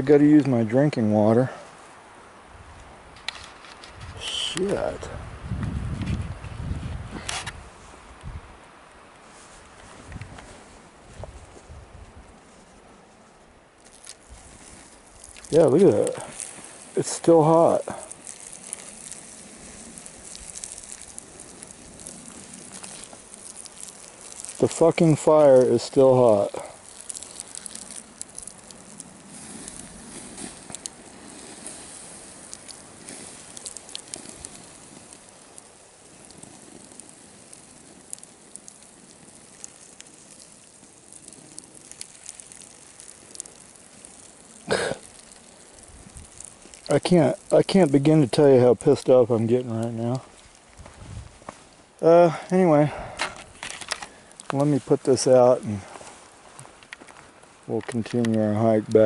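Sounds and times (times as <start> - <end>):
embers crackling: 0.0 - 59.0
water hissing on hot ashes: 0.0 - 59.0.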